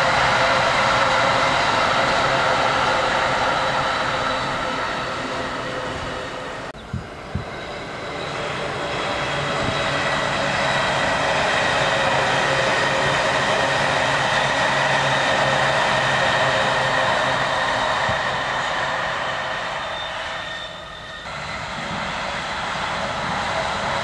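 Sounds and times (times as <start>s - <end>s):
electric train passing with whine: 0.0s - 24.0s.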